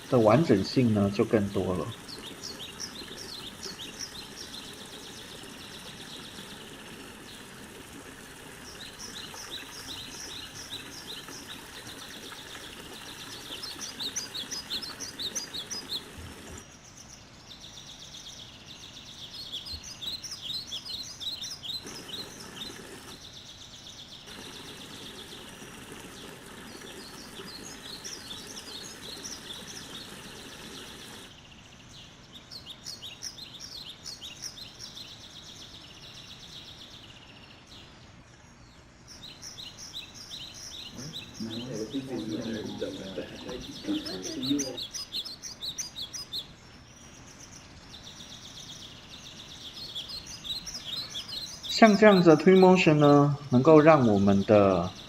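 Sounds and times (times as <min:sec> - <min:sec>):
background hiss: 0:00.0 - 0:55.0
birds chirping: 0:00.0 - 0:55.0.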